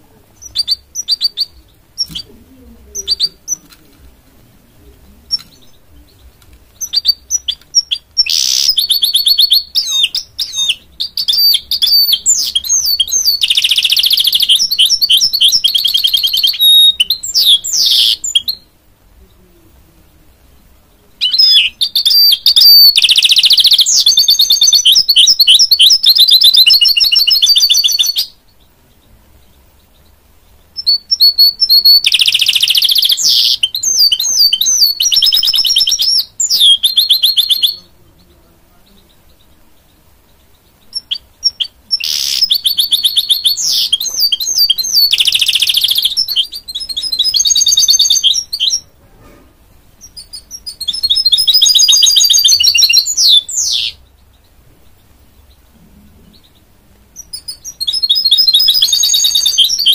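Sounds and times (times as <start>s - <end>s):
finch singing trills: 0.0s - 3.8s, 4.7s - 18.7s, 21.2s - 48.9s, 49.8s - 59.9s.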